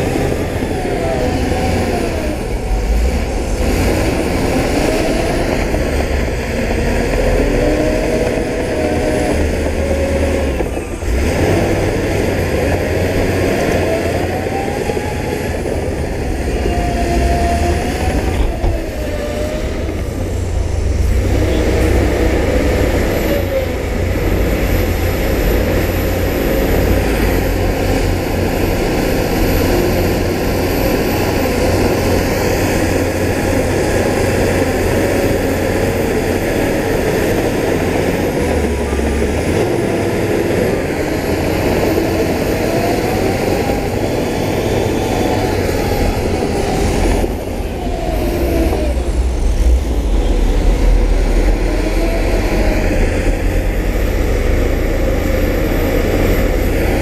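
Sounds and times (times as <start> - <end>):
diesel machinery droning: 0.0 - 57.0.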